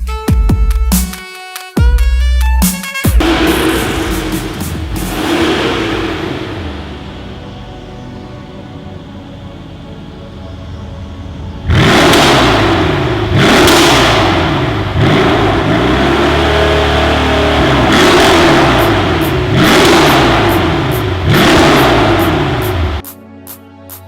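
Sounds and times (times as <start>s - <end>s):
car engine revving: 3.2s - 23.0s.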